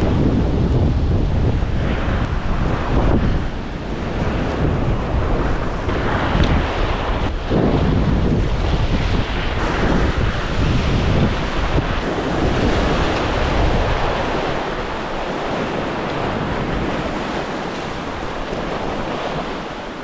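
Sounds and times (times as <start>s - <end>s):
ocean waves breaking on rocks: 0.0s - 20.0s
wind buffeting microphone: 0.0s - 20.0s.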